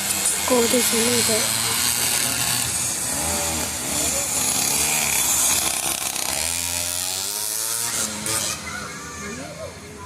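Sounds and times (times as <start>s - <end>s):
motorbike engines buzzing and revving: 0.0s - 10.0s.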